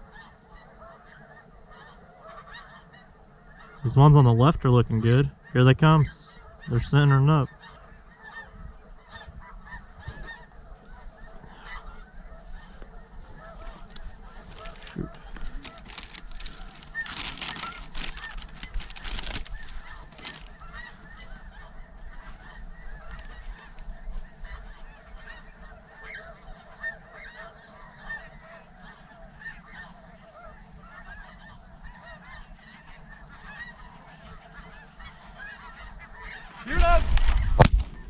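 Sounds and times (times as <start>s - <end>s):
flock of geese honking: 0.0s - 38.0s.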